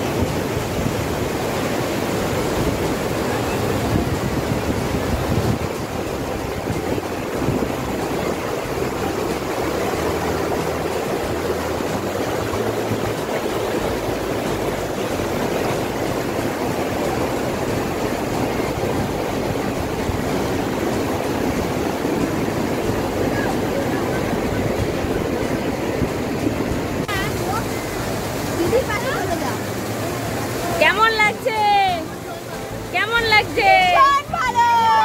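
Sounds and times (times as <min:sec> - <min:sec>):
river rushing over boulders: 0:00.0 - 0:35.0.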